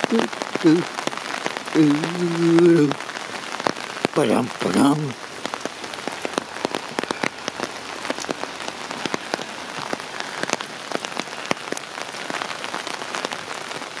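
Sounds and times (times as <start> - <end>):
raindrop hits: 0.0 - 14.0
steady rain hiss: 0.0 - 14.0.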